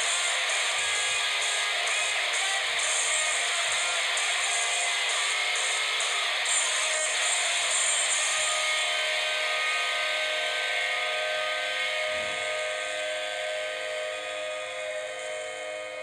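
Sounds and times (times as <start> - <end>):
rock band droning held tones: 0.0 - 16.0.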